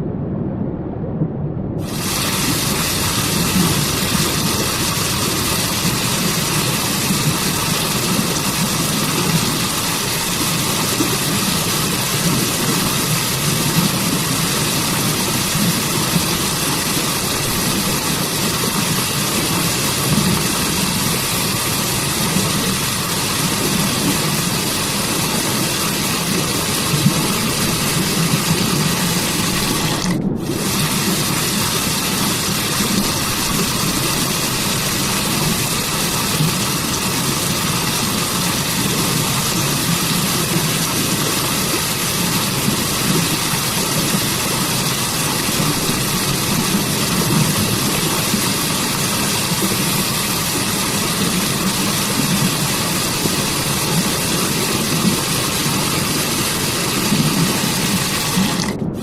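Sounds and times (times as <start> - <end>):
waterfall rushing: 1.8 - 58.8.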